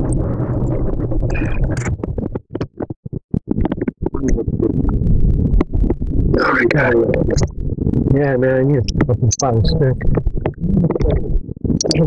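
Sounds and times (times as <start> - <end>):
crackling cut-outs: 0.0 - 12.0
low rumbling microphone noise: 0.0 - 12.0.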